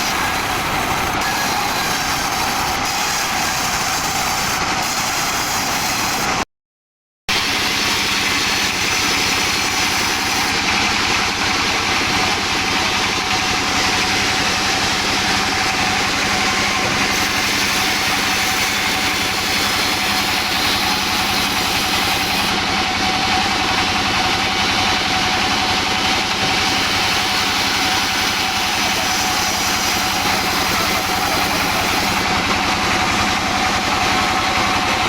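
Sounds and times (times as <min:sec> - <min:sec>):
sawmill machinery hum: 0:00.0 - 0:06.4, 0:07.3 - 0:35.0.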